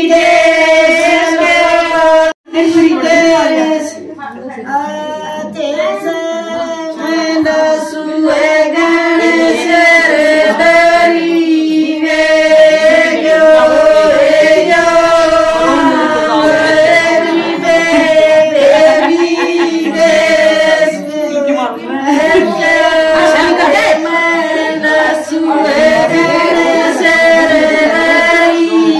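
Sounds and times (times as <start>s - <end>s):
women singing together: 0.0s - 28.9s.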